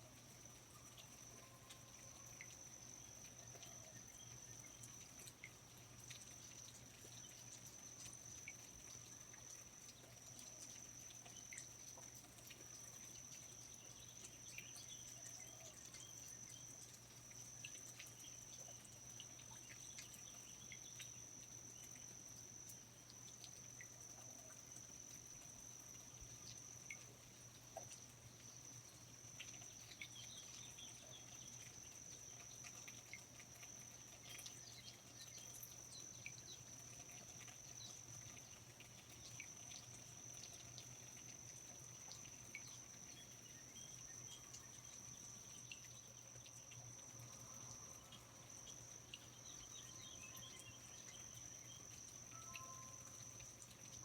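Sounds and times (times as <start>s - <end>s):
high-pitched insect trill: 0.0s - 54.0s
soft dripping clicks: 0.2s - 54.0s.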